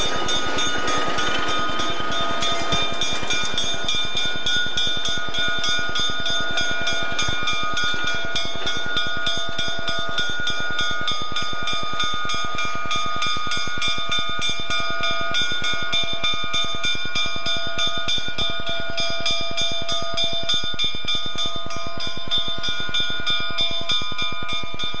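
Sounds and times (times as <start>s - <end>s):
diesel locomotive engine running: 0.0s - 25.0s
locomotive bell ringing: 0.0s - 25.0s.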